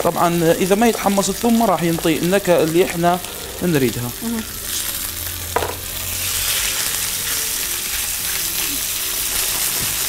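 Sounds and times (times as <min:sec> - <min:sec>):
food sizzling in frying pan: 0:00.0 - 0:10.0.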